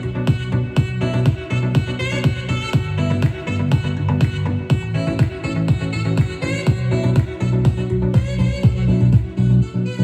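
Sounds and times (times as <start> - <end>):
house music through loudspeaker: 0.0 - 10.0.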